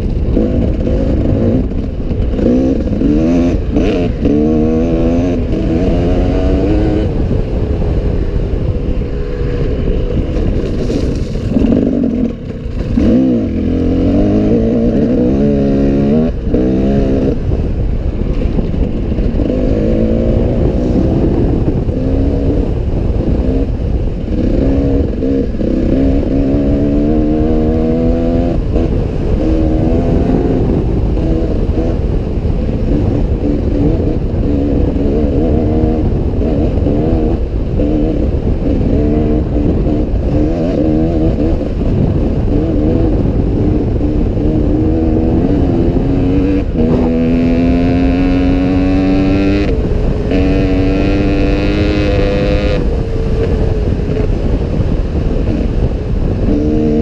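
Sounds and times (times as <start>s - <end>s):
dirt bike engine revving: 0.0s - 7.4s, 9.2s - 17.6s, 18.2s - 52.9s.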